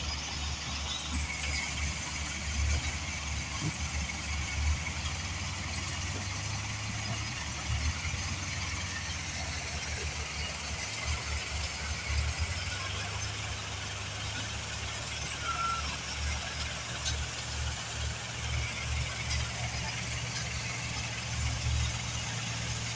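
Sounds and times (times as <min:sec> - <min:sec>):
heavy equipment engine running: 0:00.0 - 0:22.9.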